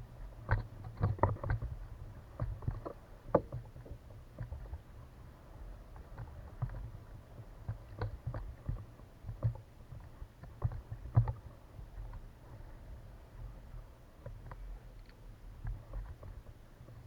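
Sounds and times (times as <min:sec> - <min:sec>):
knocks and bumps on a kayak: 0:00.2 - 0:14.8, 0:15.5 - 0:17.0.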